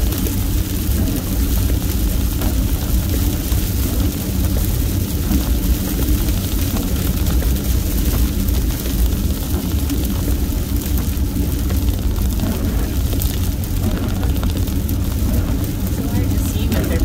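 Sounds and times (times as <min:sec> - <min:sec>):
car driving rumble: 0:00.0 - 0:17.0
rain and tyre spray hiss: 0:00.0 - 0:17.0.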